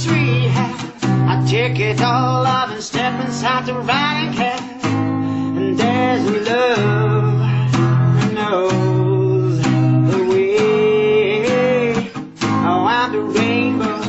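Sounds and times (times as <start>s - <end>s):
acoustic guitar strumming: 0.0s - 14.0s
man singing: 0.0s - 14.0s.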